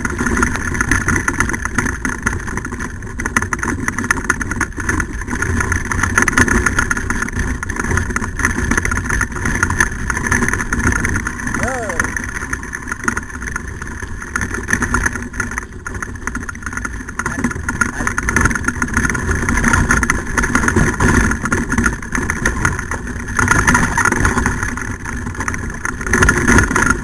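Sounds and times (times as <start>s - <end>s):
small knocks and rattles: 0.0s - 11.5s, 12.2s - 27.0s
kart wheels rumbling: 0.0s - 27.0s.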